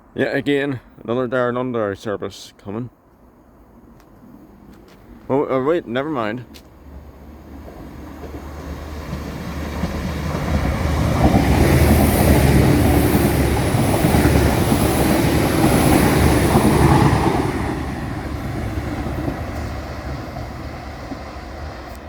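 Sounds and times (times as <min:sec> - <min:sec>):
diesel train passing: 0:03.0 - 0:22.0.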